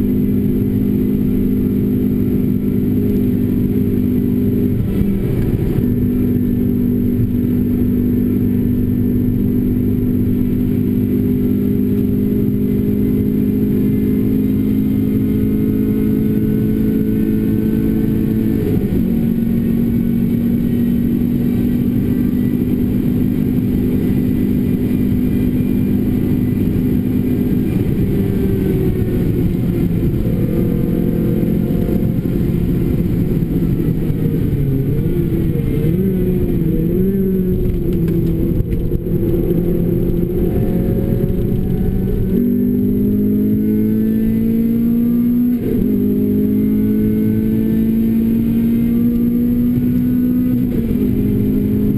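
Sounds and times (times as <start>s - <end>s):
car engine revving: 0.0s - 51.9s
tyre and road noise: 0.0s - 51.9s.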